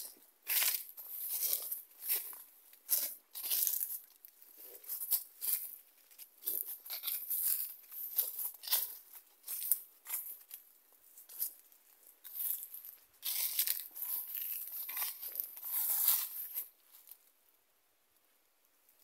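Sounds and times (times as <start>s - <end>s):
dry grass and leaves crunching: 0.0s - 17.2s.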